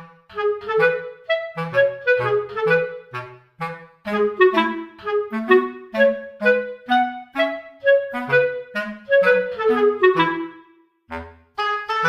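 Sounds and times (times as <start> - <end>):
bouncy instrumental music: 0.0 - 12.0.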